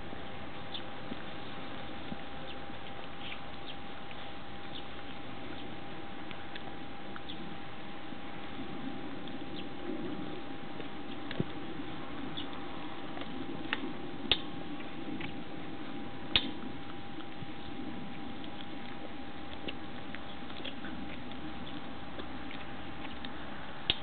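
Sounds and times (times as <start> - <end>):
puppies chewing and lapping: 0.0 - 24.0.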